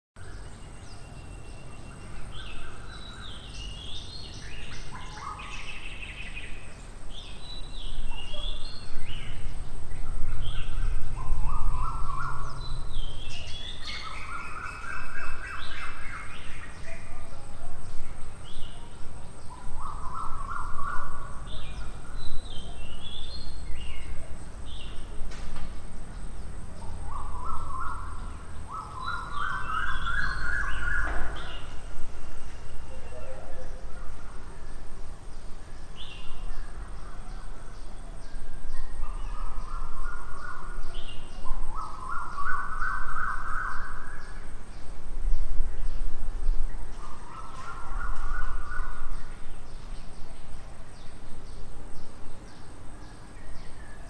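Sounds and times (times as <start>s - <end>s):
birds singing and calling: 0.2s - 54.0s.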